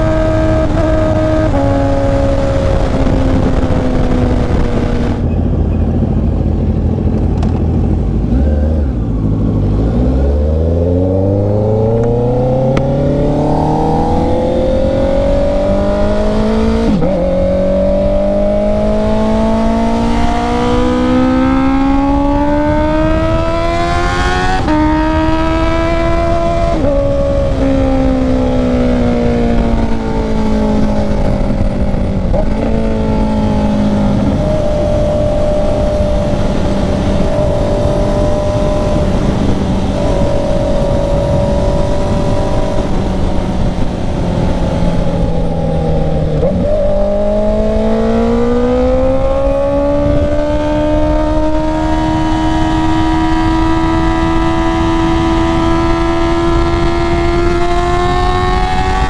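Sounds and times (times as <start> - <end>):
motorcycle engine revving: 0.0 - 59.0
wind and road rush: 0.0 - 59.0.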